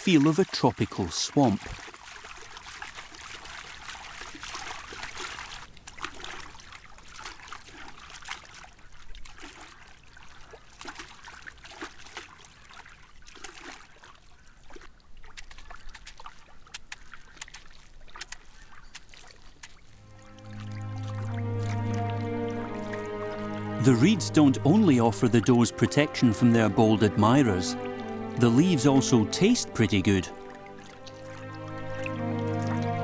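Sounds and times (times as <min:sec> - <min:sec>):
deer splashing through water: 0:00.0 - 0:33.0.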